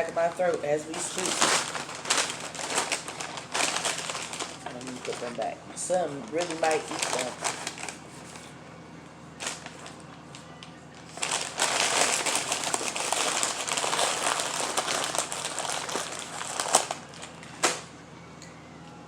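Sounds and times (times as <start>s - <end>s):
paper packaging crinkling: 0.0s - 5.5s, 6.1s - 8.5s, 9.4s - 17.8s.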